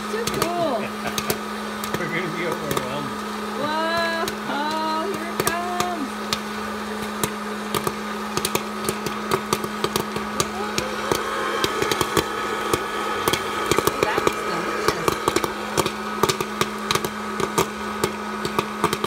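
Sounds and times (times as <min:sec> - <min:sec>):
popcorn popper fan humming: 0:00.0 - 0:19.0
popcorn kernels popping: 0:00.1 - 0:19.0.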